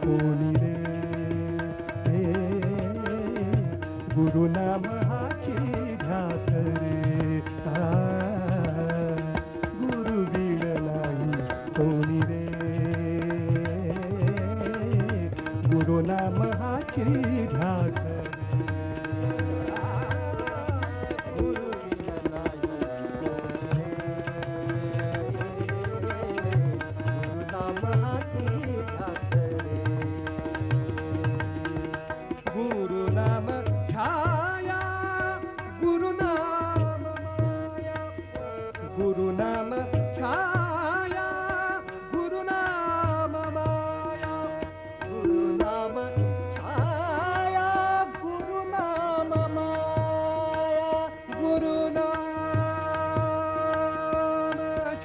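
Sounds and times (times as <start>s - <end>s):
tabla rhythm: 0.0s - 55.0s.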